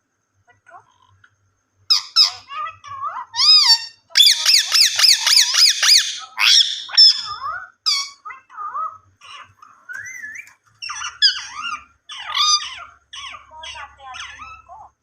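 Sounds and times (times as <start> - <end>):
parakeet squawking and chattering: 1.9 - 15.0.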